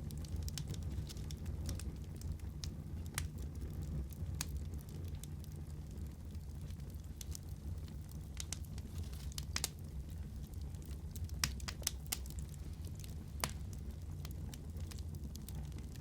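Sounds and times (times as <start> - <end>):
bonfire flame rumble: 0.0 - 16.0
burning wood crackling and popping: 0.0 - 16.0.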